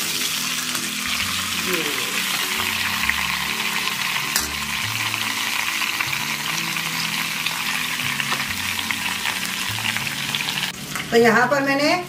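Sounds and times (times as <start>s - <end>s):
meat sizzling: 0.0s - 12.0s.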